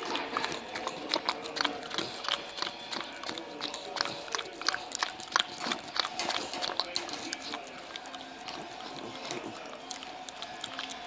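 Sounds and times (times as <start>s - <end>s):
puppy licking a metal spoon: 0.0s - 11.0s.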